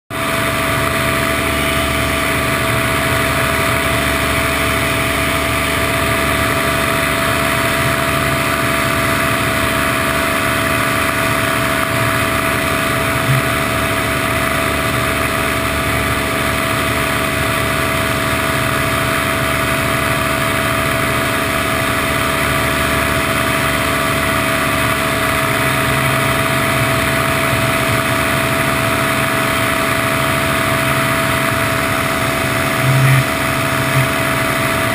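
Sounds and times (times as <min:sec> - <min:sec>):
paramotor engine drone: 0:00.1 - 0:34.9.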